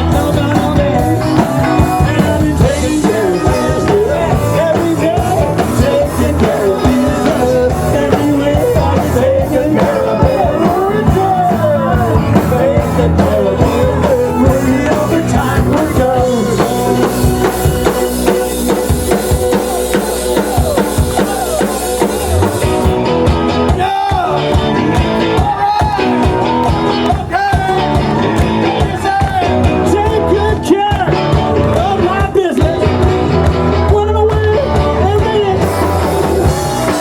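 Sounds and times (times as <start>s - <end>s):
live rock band playing: 0.0s - 37.0s
person singing: 0.0s - 37.0s.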